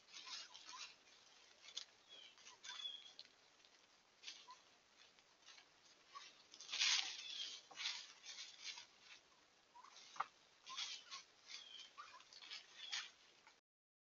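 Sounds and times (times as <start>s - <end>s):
soft bird chirping calls: 0.0s - 3.6s, 4.2s - 4.8s, 5.4s - 13.3s
rustling in dry leaves: 0.0s - 13.6s.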